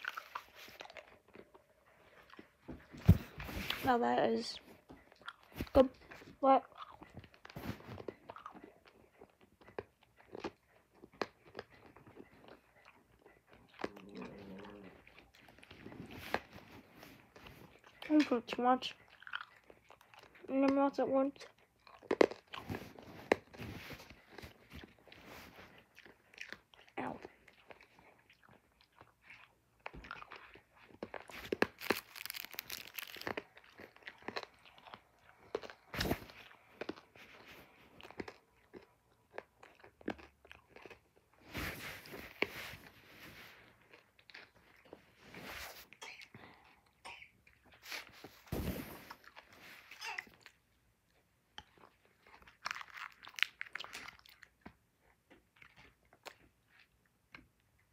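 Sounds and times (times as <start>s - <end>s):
person chewing candy: 0.0s - 2.9s, 4.4s - 57.9s.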